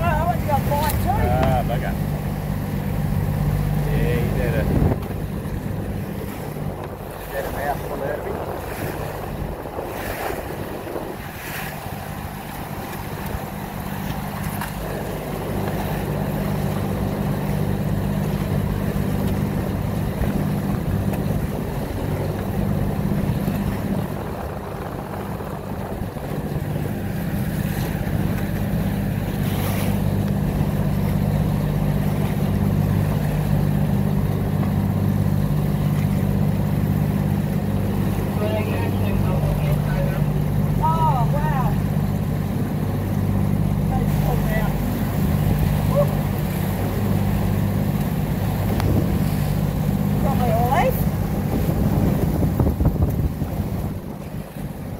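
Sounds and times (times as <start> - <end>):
boat engine humming: 0.0 - 54.9
choppy water rushing: 0.0 - 54.9
wind: 0.0 - 54.9.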